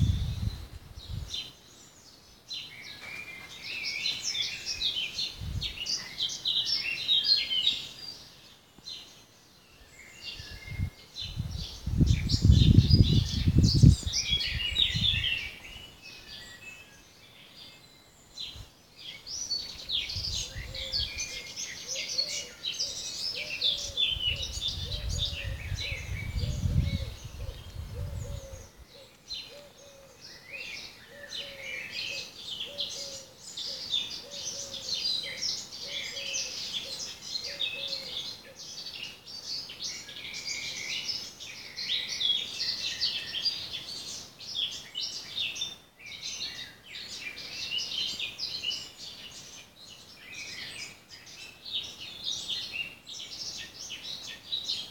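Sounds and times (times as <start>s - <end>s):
songbirds chirping and singing: 0.0s - 54.9s.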